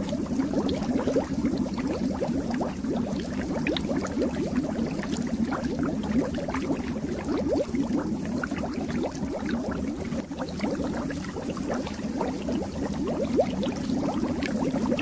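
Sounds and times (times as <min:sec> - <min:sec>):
fish tank water bubbling: 0:00.0 - 0:15.0.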